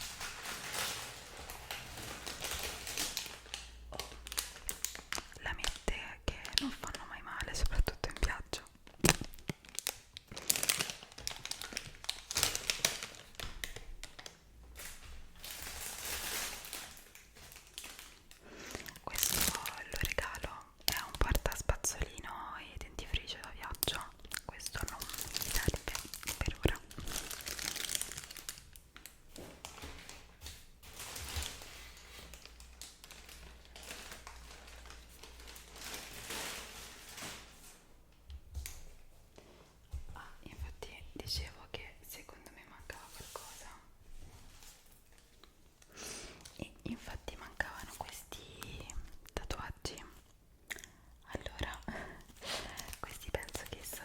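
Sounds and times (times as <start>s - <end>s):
soft crinkling: 0.0s - 54.0s
soft rustling hiss: 0.0s - 54.0s.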